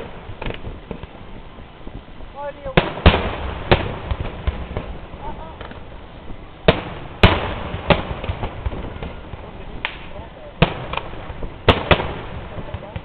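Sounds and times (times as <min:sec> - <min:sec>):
fireworks bangs: 0:00.0 - 0:13.0
fireworks pops and rumble: 0:00.0 - 0:13.0.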